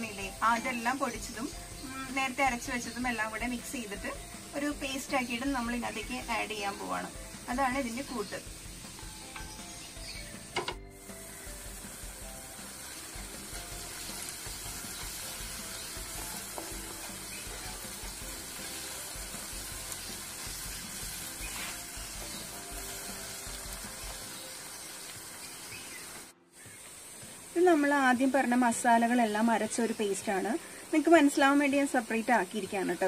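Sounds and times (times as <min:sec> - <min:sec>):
onions sizzling in oil: 0:00.0 - 0:33.0.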